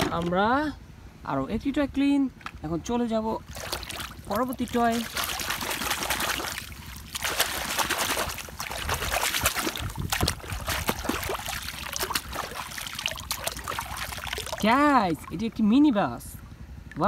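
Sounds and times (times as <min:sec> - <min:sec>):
water splashing and sloshing: 0:02.4 - 0:17.0.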